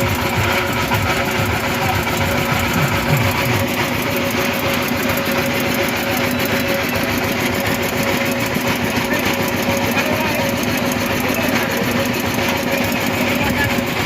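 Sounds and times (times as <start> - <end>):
background chatter: 0.0 - 14.0
engine humming: 0.0 - 14.0.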